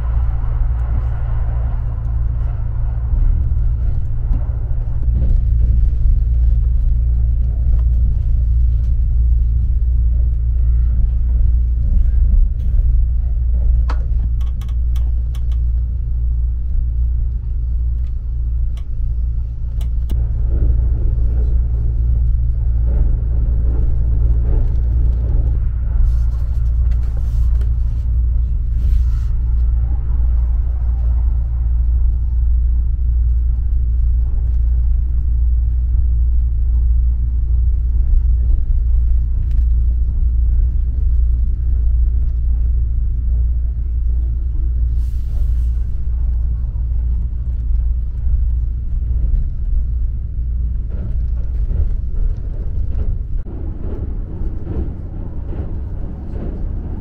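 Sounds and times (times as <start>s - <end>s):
electric train running rumble: 0.0s - 57.0s.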